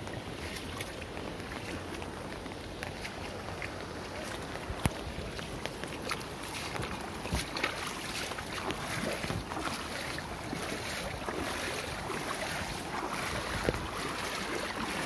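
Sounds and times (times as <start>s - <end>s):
water rushing down channel: 0.0s - 15.0s
water splashing and gurgling: 0.0s - 15.0s.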